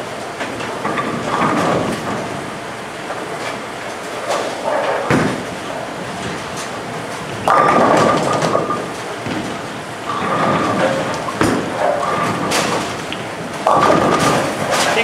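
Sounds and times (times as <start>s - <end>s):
bowling alley background noise: 0.0s - 15.0s
bowling pins clattering: 0.0s - 15.0s.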